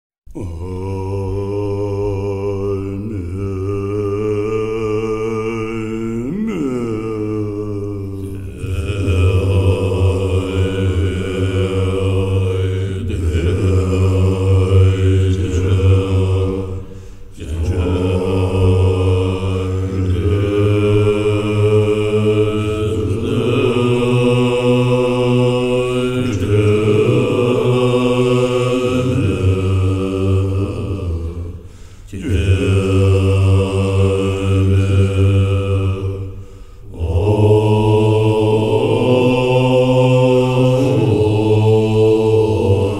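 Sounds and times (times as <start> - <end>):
monks chanting in deep voices: 0.3 - 42.9.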